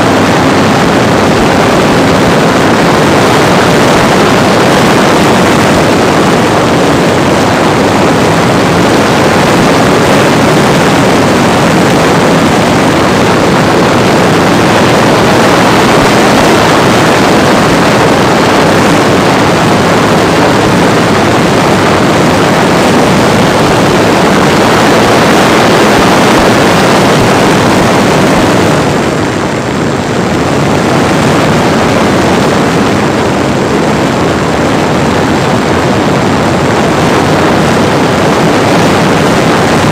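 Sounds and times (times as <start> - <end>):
rush of air: 0.0 - 39.9.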